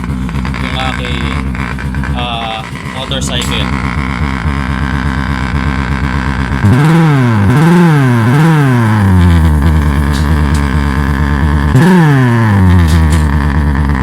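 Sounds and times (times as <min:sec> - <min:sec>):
motorcycle engine idling and revving: 0:00.0 - 0:14.0
sound-effect speaker buzzing: 0:00.0 - 0:14.0.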